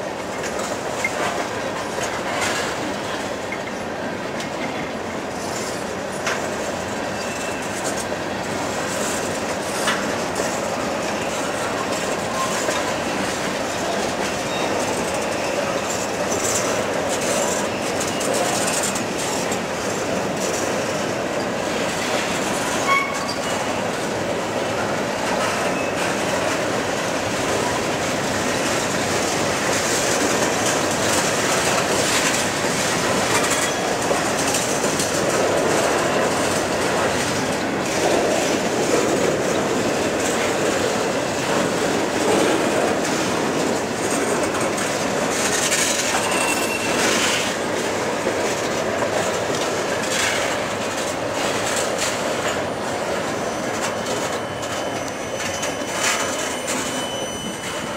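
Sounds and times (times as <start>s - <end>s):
freight train rolling past: 0.0s - 57.9s
train wheel squeals: 0.5s - 48.0s, 50.0s - 57.9s.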